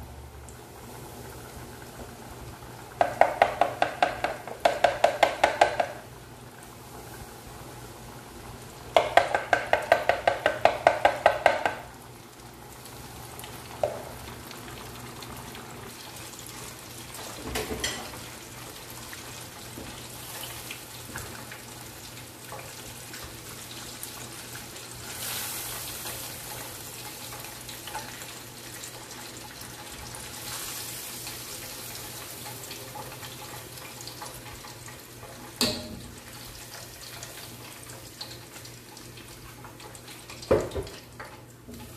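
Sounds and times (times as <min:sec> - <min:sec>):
chicken sizzling in hot oil: 0:00.0 - 0:41.9.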